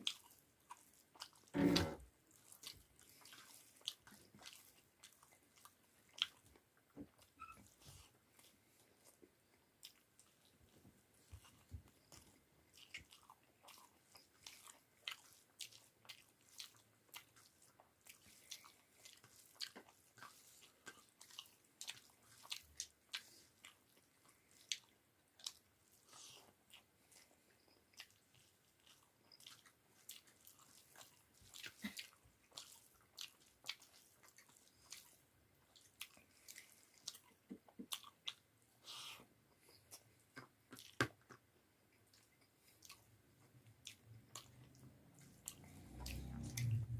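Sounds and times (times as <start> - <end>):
chewing mouth clicks and smacks: 0.0 - 1.5, 2.3 - 46.9.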